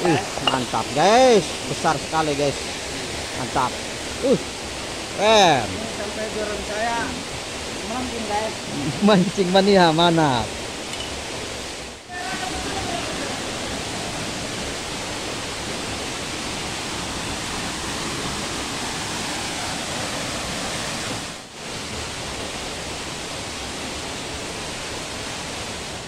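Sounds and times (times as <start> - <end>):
waterfall and river rushing: 0.0 - 26.0.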